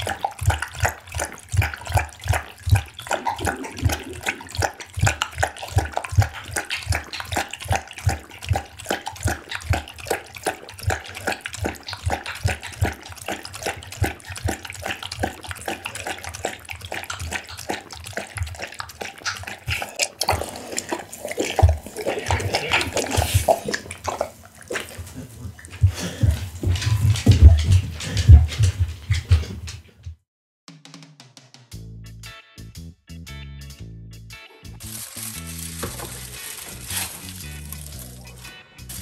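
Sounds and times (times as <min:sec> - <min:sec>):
dog lapping from glass bowl: 0:00.0 - 0:29.7, 0:34.9 - 0:39.0.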